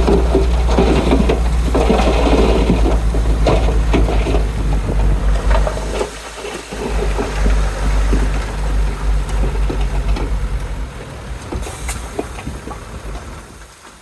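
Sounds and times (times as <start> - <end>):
knocks and rattles: 0.0 - 6.1, 6.7 - 13.4
bulldozer diesel engine running: 0.0 - 13.6.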